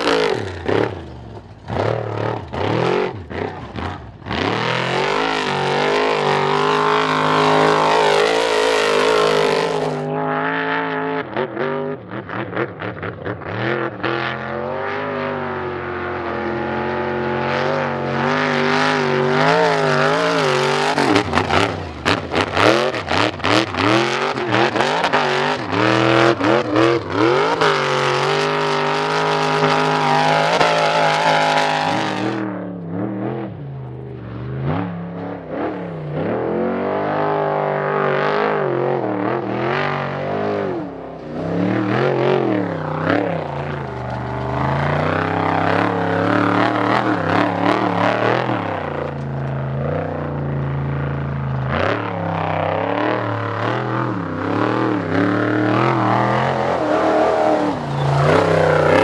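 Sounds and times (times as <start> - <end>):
racing truck engines revving: 0.0 - 59.0.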